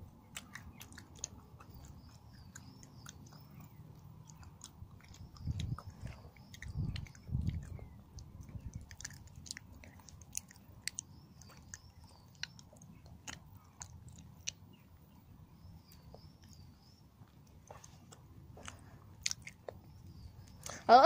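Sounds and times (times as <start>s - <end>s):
chewing crunchy chocolate: 0.0s - 20.8s.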